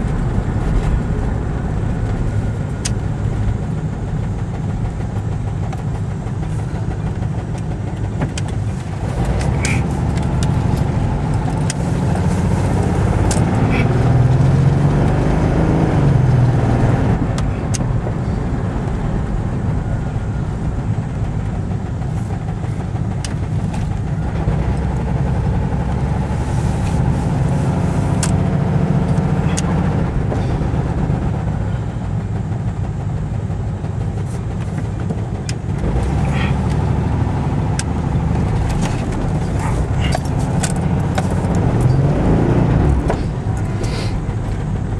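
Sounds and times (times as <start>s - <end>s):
car engine revving with bad muffler: 0.0s - 44.9s.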